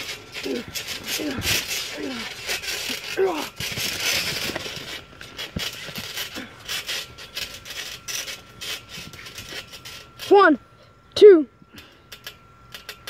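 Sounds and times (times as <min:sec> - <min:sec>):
bodies rubbing on trampoline mat: 0:00.0 - 0:10.5.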